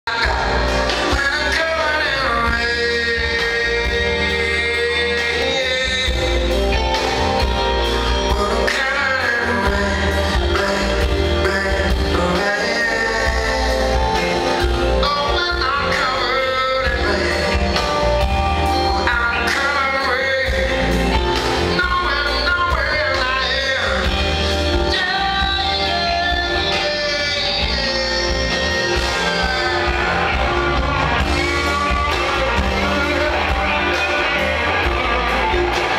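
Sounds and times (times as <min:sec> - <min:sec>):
drums: 0:00.0 - 0:35.9
man singing: 0:00.0 - 0:35.9
electric guitars: 0:00.1 - 0:35.9.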